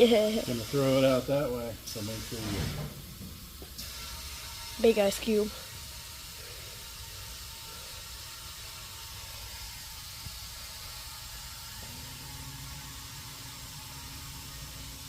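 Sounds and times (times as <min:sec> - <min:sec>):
compressed air hissing into tire: 0:00.0 - 0:15.0
low steady hum: 0:00.0 - 0:15.0.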